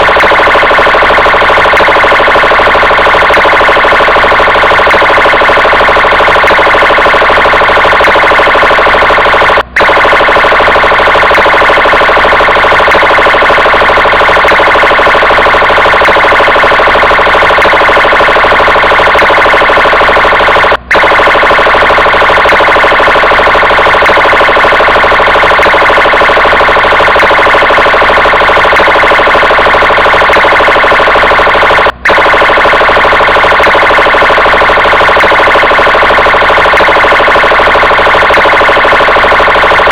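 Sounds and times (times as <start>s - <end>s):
police car siren: 0.0s - 39.9s.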